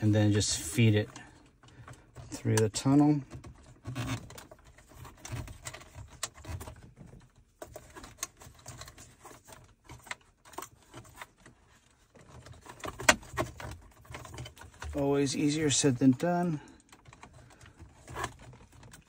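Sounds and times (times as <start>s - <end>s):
plastic trim clicks and rustles: 0.0s - 19.0s.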